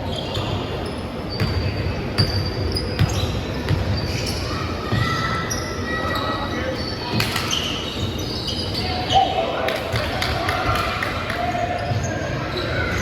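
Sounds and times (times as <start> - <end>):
sneakers squeaking on floor: 0.0 - 9.4, 11.8 - 13.0.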